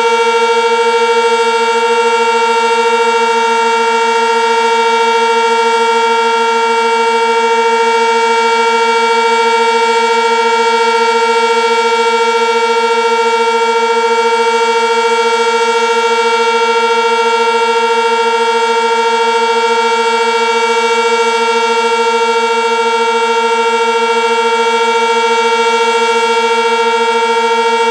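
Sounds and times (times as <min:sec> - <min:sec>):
tornado siren steady tone: 0:00.0 - 0:27.9.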